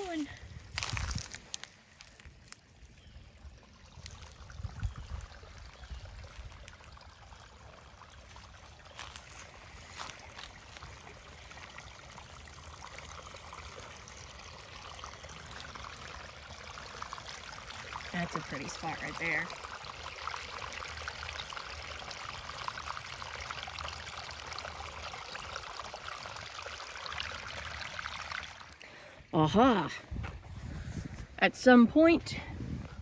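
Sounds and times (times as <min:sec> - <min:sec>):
small waterfall: 0:00.0 - 0:29.9
water trickling over rocks: 0:00.0 - 0:32.2.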